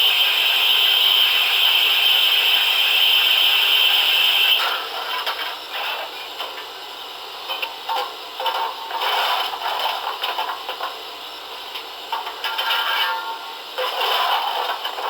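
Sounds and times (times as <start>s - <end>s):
steam locomotive sounds from speaker: 0.0s - 15.0s.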